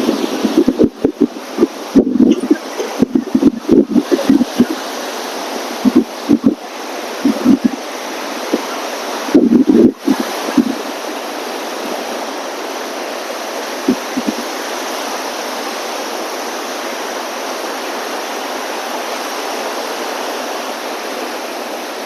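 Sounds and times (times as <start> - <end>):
strong wind: 0.0 - 22.0
surf breaking on beach: 0.0 - 22.0.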